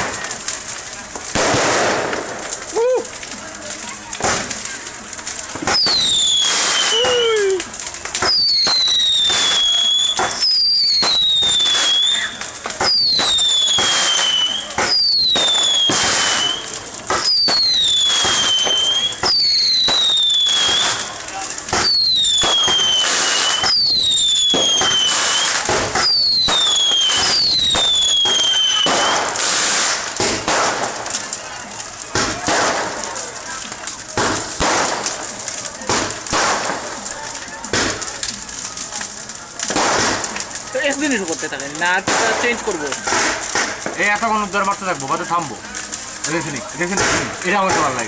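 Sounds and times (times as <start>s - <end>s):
firework bangs: 0.0s - 48.0s
whistling fireworks: 1.3s - 3.1s, 5.5s - 48.0s.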